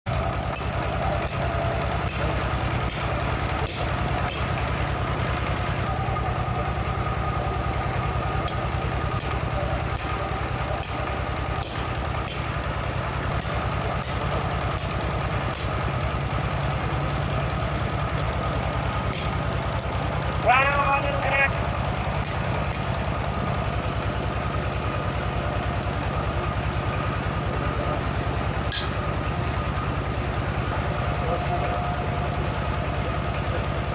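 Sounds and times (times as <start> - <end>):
engine running with low pulse: 0.1 - 33.9.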